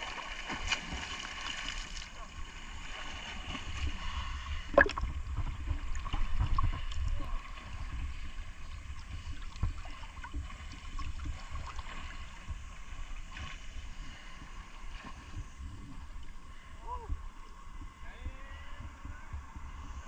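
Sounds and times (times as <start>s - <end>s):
seawater sloshing and gurgling: 0.0s - 18.0s.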